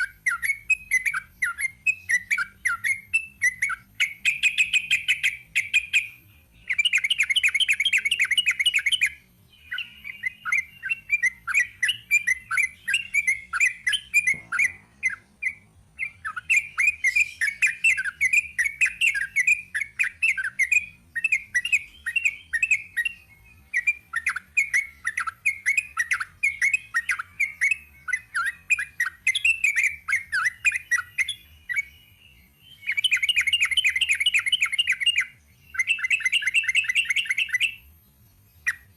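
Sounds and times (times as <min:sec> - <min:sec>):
bulbul singing rolling song: 0:00.0 - 0:38.9.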